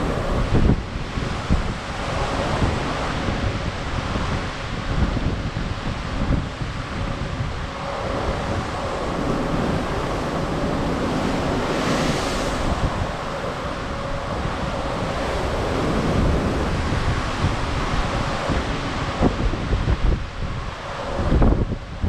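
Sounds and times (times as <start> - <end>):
rushing sea waves: 0.0 - 22.0
wind buffeting microphone: 0.0 - 22.0.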